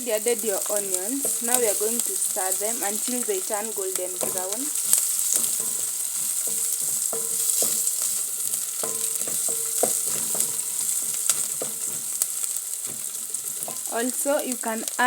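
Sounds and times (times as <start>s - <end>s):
onions sizzling in hot oil: 0.0s - 15.0s
utensil knocking and scraping pot: 0.4s - 13.9s.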